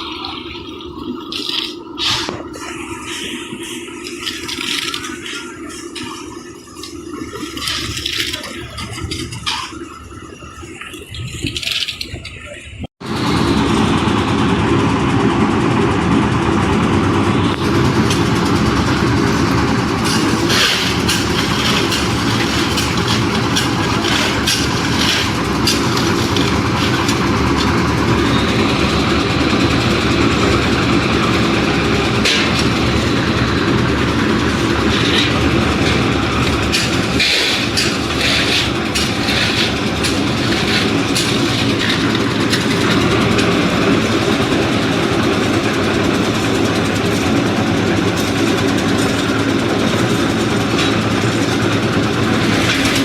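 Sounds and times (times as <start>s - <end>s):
concrete mixer engine hum: 0.0s - 53.0s
mix rattling in turning drum: 0.0s - 53.0s.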